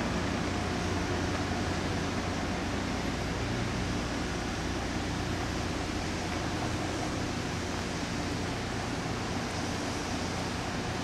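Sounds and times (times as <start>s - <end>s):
truck engine drone and hiss: 0.0s - 11.0s.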